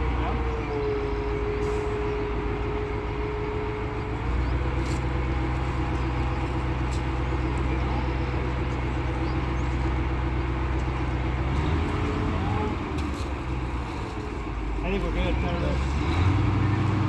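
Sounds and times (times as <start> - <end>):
crane diesel engine running: 0.0 - 17.0.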